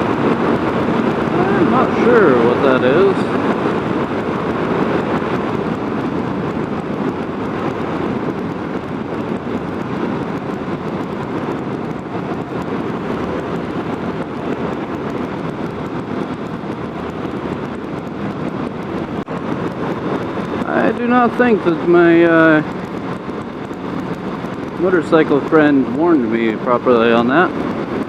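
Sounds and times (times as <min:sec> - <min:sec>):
motorcycle engine: 0:00.0 - 0:28.0
road noise: 0:00.0 - 0:28.0
wind noise on microphone: 0:00.0 - 0:28.0.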